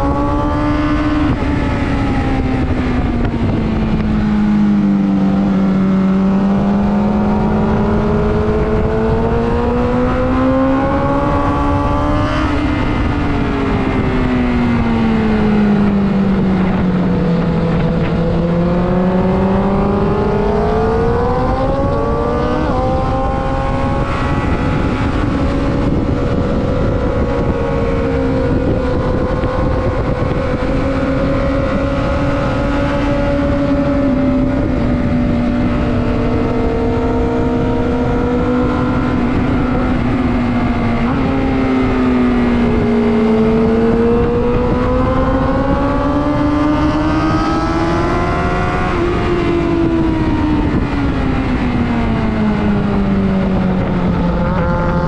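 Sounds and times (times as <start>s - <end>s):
motorcycle engine running hard: 0.0s - 55.0s
wind noise on microphone: 0.0s - 55.0s.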